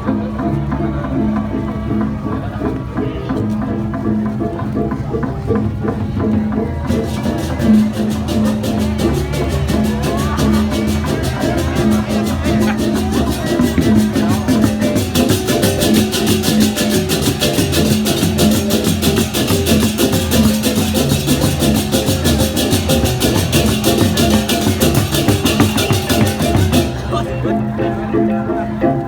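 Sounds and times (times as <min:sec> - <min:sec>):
gamelan music: 0:00.0 - 0:29.0.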